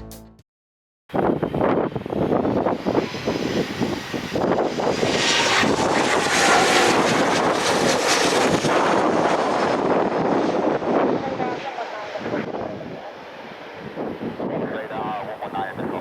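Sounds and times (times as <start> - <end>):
plane engines passing: 1.2 - 16.0.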